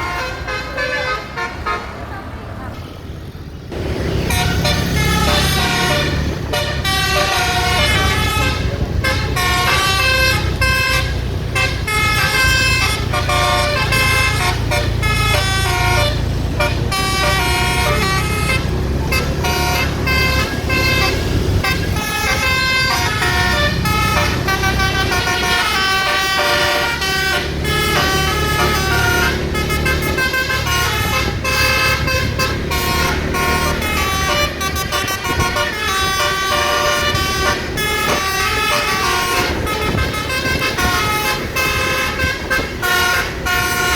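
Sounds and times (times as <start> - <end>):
multi-tone bus horn melody: 0.0 - 2.3, 4.0 - 43.9
bus engine rumbling: 0.0 - 43.9.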